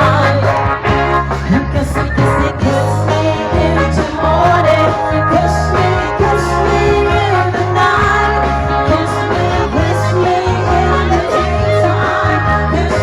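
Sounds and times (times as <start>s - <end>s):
live band playing: 0.0s - 13.0s
person singing: 0.0s - 13.0s.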